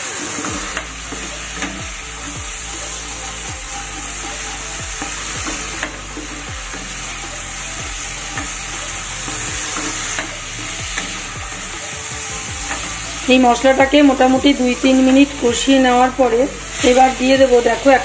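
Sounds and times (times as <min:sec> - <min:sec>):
paste sizzling in oil: 0:00.0 - 0:18.0.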